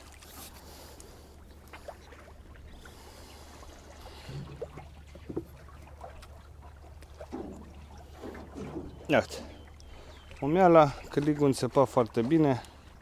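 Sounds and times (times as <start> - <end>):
water lapping around boat: 0.0 - 13.0.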